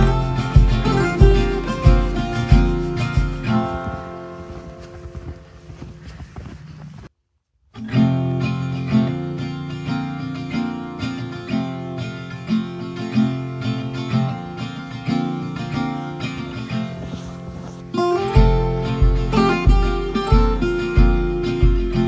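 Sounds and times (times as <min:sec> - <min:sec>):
acoustic guitar music: 0:00.0 - 0:07.0, 0:07.7 - 0:22.0.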